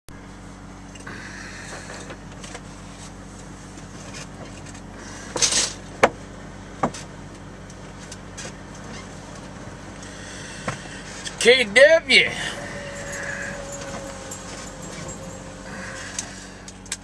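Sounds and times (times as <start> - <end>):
truck engine running: 0.1 - 17.0.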